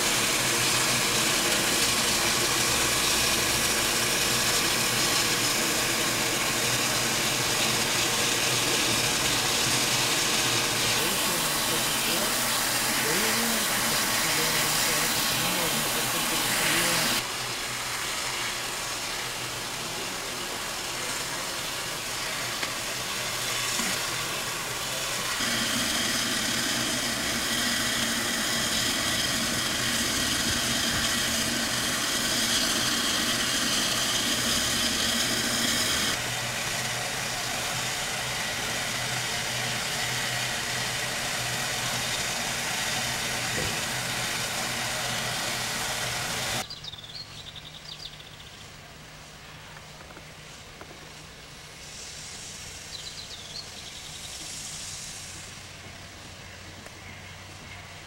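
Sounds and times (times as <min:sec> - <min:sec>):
steam locomotive hissing and rumbling: 0:00.0 - 0:46.9, 0:47.8 - 0:58.0.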